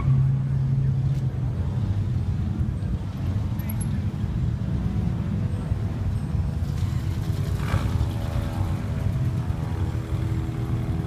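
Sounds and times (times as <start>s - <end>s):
car engines rumbling in traffic: 0.0s - 11.0s.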